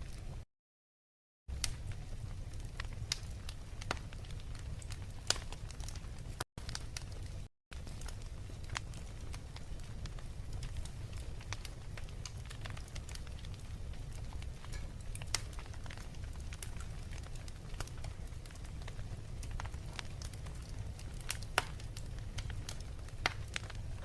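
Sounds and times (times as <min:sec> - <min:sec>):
wood fire crackling: 0:00.0 - 0:00.4, 0:01.5 - 0:24.0.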